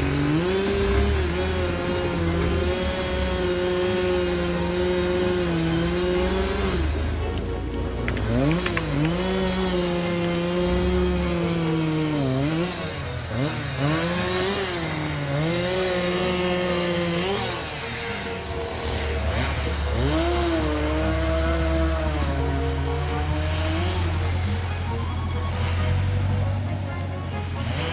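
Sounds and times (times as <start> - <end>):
log skidding: 0.0 - 27.9
tractor diesel engine revving: 0.0 - 27.9.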